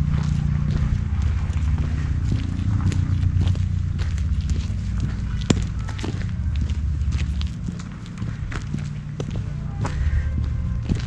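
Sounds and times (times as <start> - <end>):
footsteps on pavement: 0.0 - 11.0
steady low rumble: 0.0 - 11.0.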